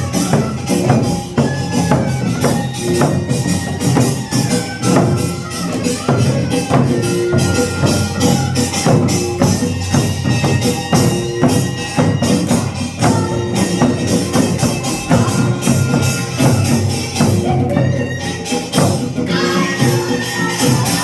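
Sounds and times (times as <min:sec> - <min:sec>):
fast drum strokes: 0:00.0 - 0:21.0
held melody line: 0:00.0 - 0:21.0.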